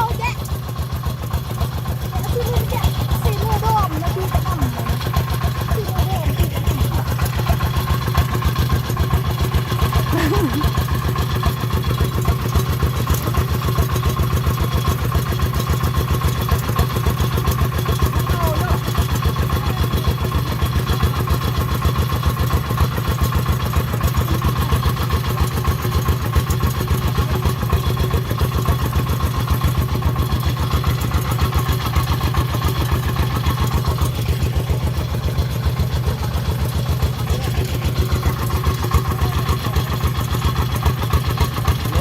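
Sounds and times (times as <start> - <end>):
diesel engine chugging: 0.0 - 42.0.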